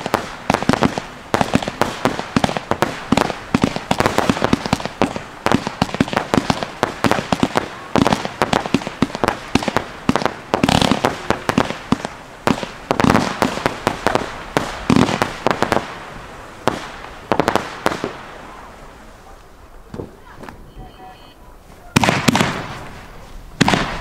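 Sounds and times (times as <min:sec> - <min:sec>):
fireworks banging: 0:00.0 - 0:24.0.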